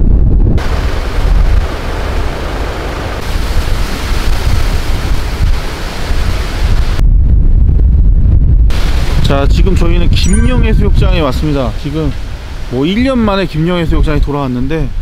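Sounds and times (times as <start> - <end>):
strong wind blowing: 0.0 - 2.6, 3.2 - 15.0.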